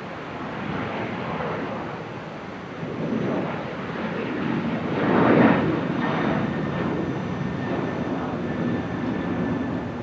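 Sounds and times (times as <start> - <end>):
jet engines rushing: 0.0 - 10.0.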